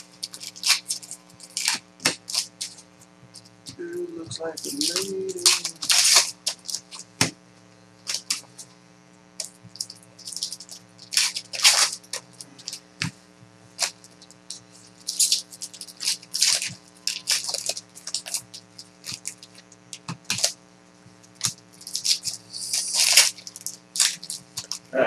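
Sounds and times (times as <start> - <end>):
cards and wrappers rustling: 0.0 - 2.8, 3.7 - 7.3, 8.0 - 8.7, 9.4 - 13.1, 13.7 - 20.6, 21.4 - 24.9
faint electrical hum: 0.0 - 25.0.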